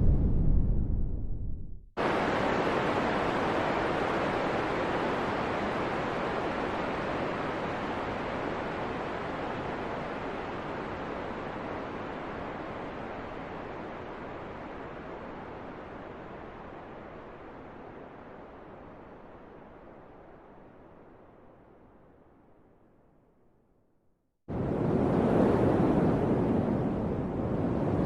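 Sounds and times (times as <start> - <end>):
rushing wind: 0.0 - 21.2, 24.5 - 28.0.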